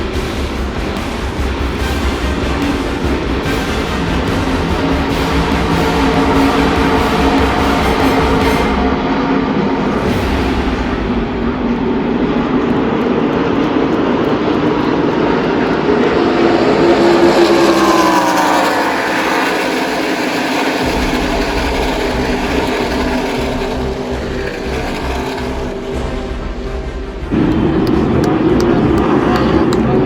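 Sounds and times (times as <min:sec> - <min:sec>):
race trucks engine drone: 0:00.0 - 0:30.0
truck passing close by: 0:00.0 - 0:30.0.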